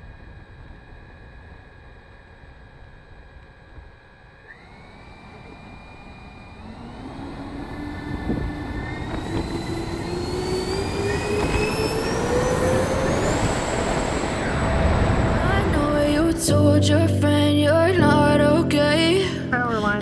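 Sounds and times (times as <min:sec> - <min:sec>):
electric ducted fans whining: 0:00.0 - 0:20.0.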